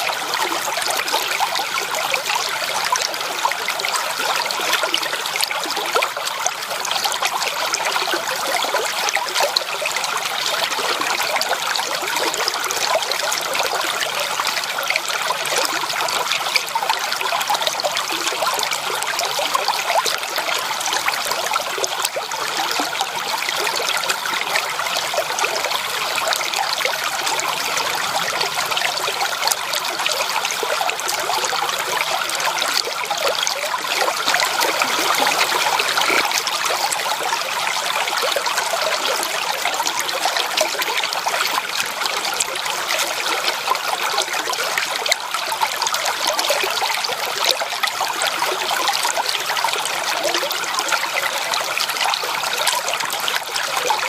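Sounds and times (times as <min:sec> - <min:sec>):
stream water flowing and splashing: 0:00.0 - 0:54.0.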